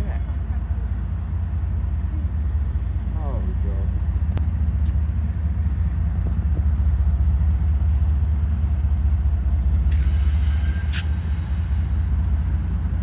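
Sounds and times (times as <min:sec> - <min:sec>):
diesel train rumble: 0:00.0 - 0:13.0.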